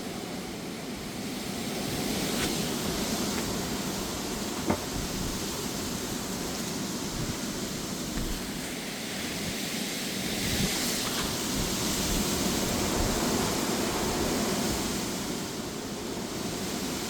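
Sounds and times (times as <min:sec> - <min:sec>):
gusty wind with rain: 0:00.0 - 0:17.0.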